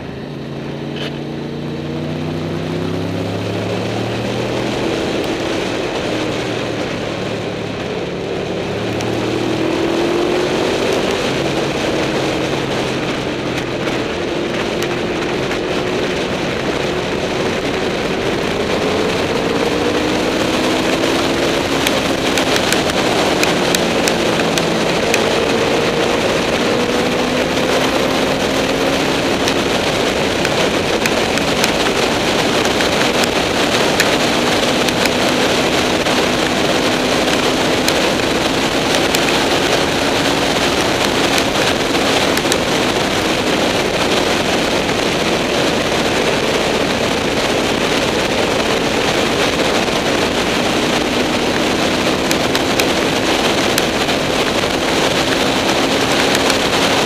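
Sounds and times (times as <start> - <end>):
motorcycle engine: 0.0 - 57.0
wind rush over microphone: 0.0 - 57.0.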